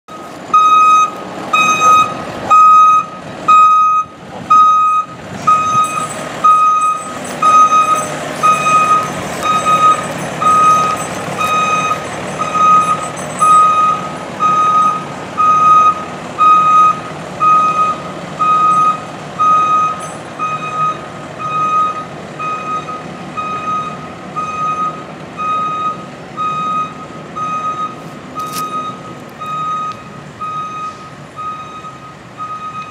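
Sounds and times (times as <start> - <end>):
reversing alarm beeping: 0.1 - 32.9
truck engine running: 0.1 - 32.9.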